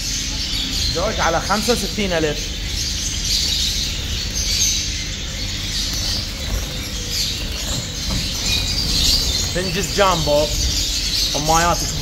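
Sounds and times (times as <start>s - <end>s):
finches chirping and twittering: 0.0s - 12.0s.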